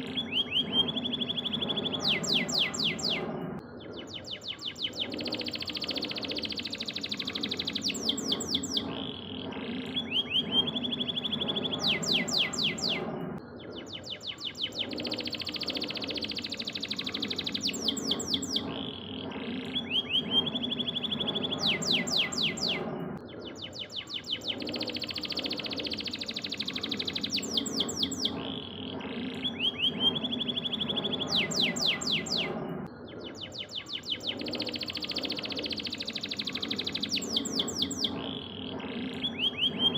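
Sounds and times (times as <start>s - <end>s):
canary singing: 0.0s - 32.6s, 33.2s - 39.9s.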